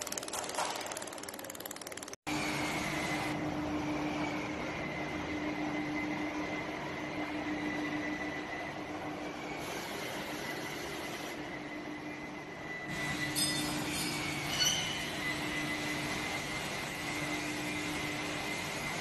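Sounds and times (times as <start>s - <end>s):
machinery hum and whine: 2.3s - 19.0s.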